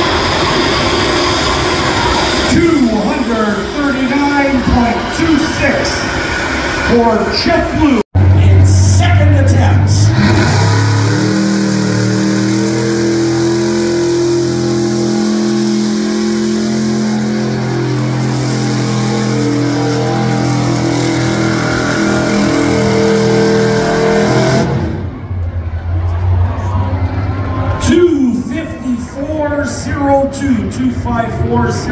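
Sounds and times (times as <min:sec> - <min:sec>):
truck engine at high revs: 0:00.0 - 0:25.6.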